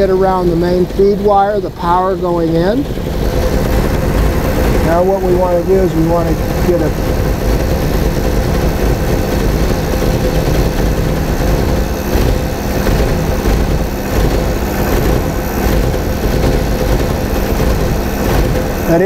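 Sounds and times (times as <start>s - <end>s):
engine idling roughly with misfire: 0.0s - 19.0s.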